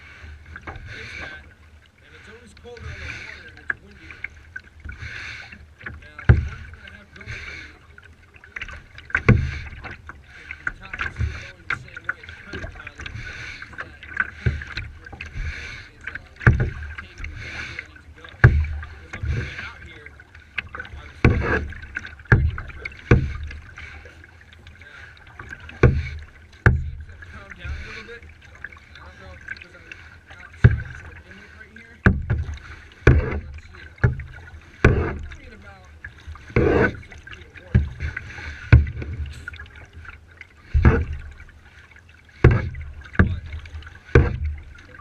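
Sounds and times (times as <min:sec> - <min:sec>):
paddle stroke splashes: 0:00.0 - 0:45.0
quiet water noise: 0:00.0 - 0:45.0.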